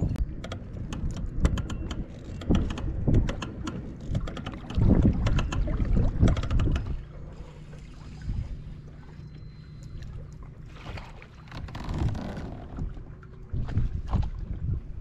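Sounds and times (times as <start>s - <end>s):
wind rumble on microphone: 0.0s - 9.0s, 10.9s - 15.0s
waves slapping plastic hull: 0.6s - 15.0s.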